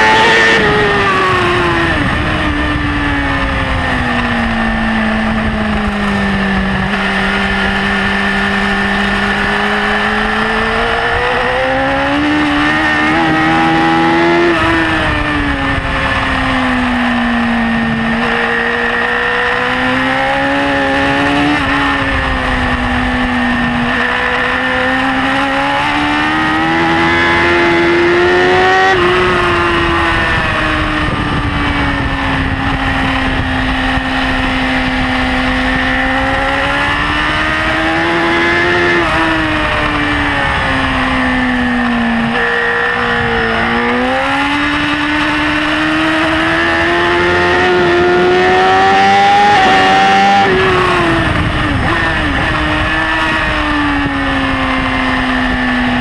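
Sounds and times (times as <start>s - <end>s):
motorcycle engine revving high: 0.0s - 56.0s.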